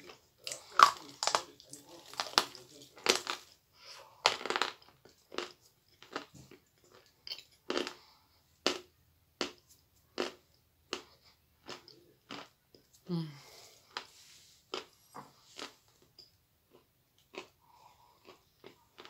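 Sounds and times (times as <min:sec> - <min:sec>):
crunchy chewing: 0:00.0 - 0:12.9, 0:13.8 - 0:19.0.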